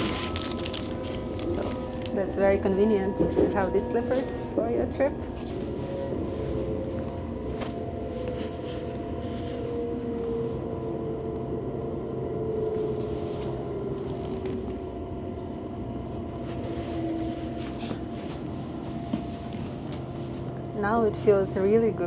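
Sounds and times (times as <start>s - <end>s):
train rumbling with faint whine: 0.0s - 22.0s.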